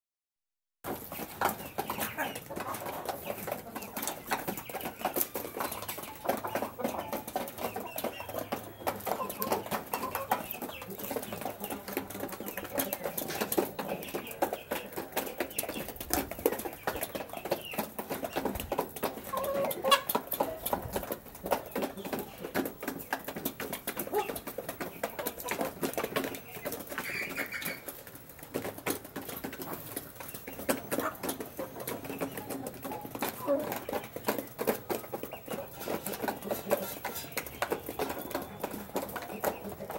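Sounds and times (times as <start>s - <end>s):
chickens clucking: 0.8s - 39.9s
beaks tapping on feed dishes: 0.9s - 39.9s.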